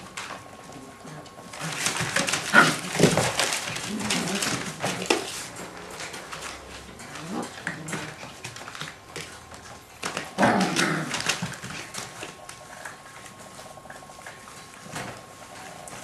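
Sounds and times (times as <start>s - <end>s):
paws scratching on paper: 0.0s - 16.0s.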